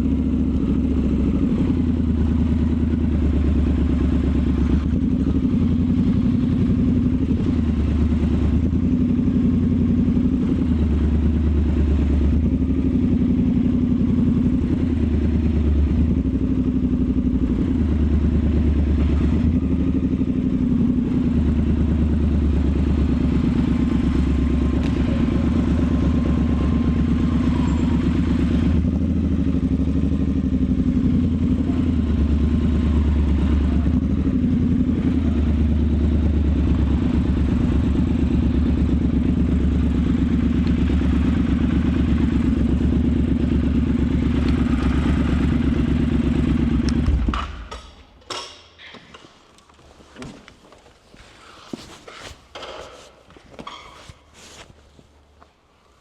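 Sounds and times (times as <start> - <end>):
motorcycle engine running: 0.0 - 47.8.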